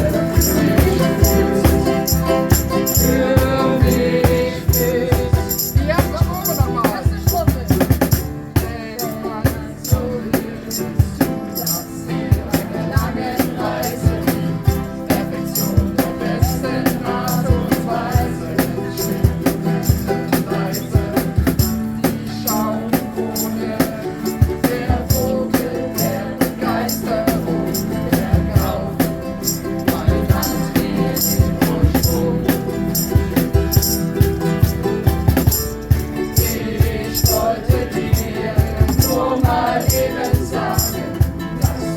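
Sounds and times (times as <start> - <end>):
ukulele strumming: 0.0 - 41.9.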